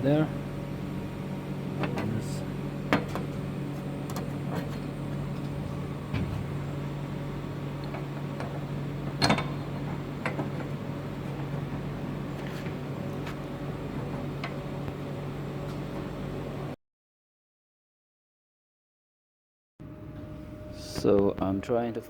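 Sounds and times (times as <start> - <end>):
steady low hum: 0.0 - 16.8, 19.8 - 22.0.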